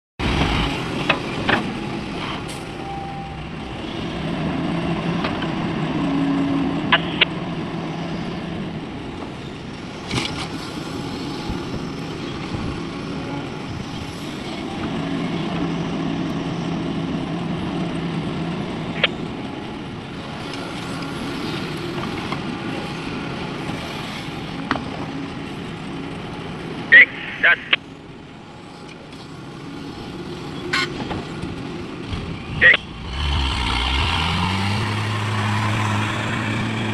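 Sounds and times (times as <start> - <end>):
excavator diesel engine working: 0.2 - 36.9.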